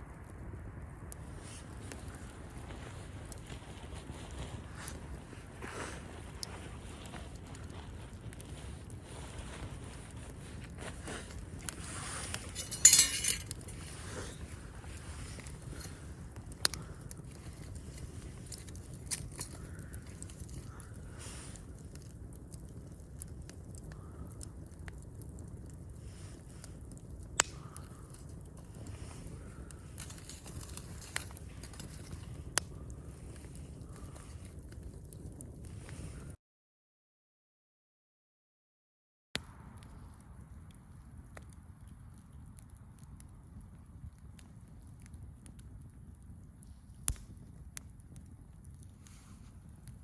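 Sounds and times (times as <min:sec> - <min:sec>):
campfire wood crackling: 0:00.0 - 0:36.4, 0:39.4 - 0:50.0
sharp pops of burning wood: 0:01.1 - 0:35.5, 0:39.8 - 0:50.0.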